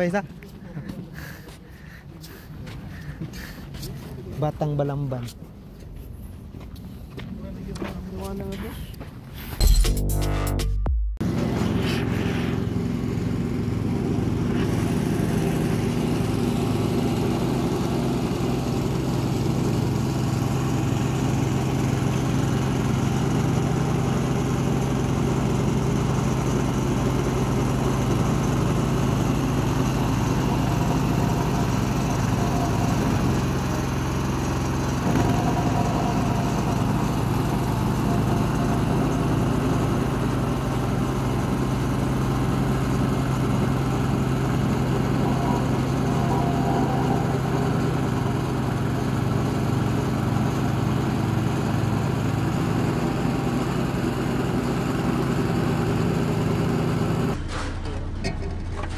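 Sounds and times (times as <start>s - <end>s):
roller engine running: 9.6s - 58.9s.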